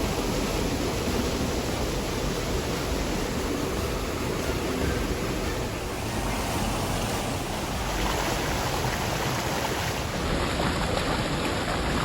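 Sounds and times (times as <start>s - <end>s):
stream water tumbling over rocks: 0.0s - 12.0s.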